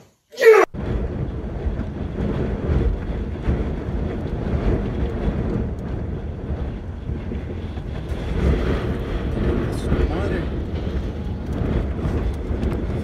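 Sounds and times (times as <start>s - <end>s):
wind buffeting microphone: 0.7s - 13.0s.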